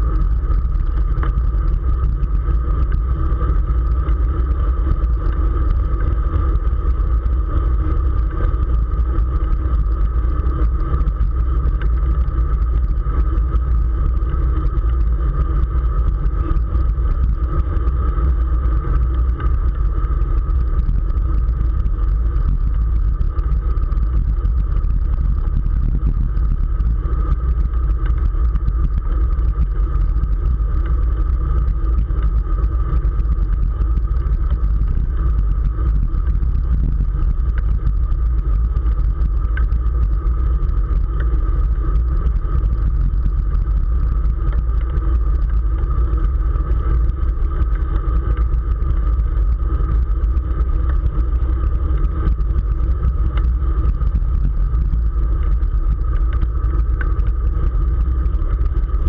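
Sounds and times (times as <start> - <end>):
steady hum: 0.0 - 59.0
wind rumbling on microphone: 0.0 - 59.0.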